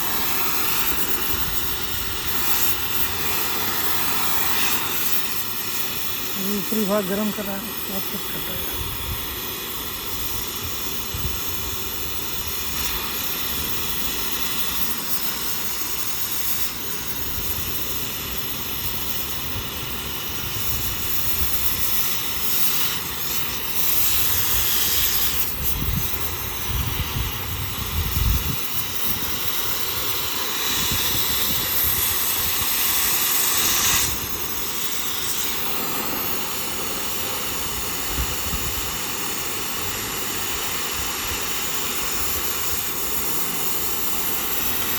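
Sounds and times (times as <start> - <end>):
gas cutting torch hissing: 0.0 - 44.9.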